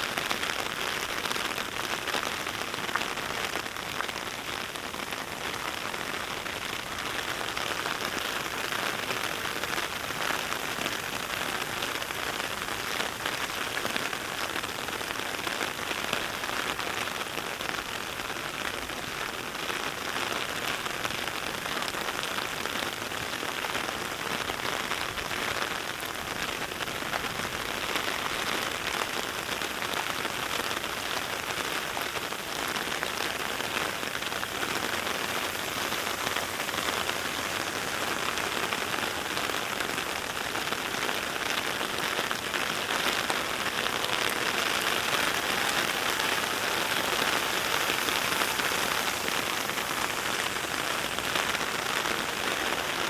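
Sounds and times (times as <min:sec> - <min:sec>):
heavy rain patter: 0:00.0 - 0:53.0.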